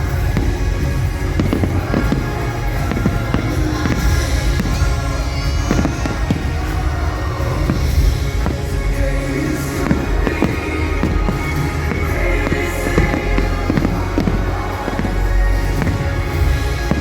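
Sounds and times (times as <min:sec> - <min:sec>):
deep rumble: 0:00.0 - 0:17.0
fireworks bursting and crackling: 0:00.0 - 0:17.0
loud show music: 0:00.0 - 0:17.0.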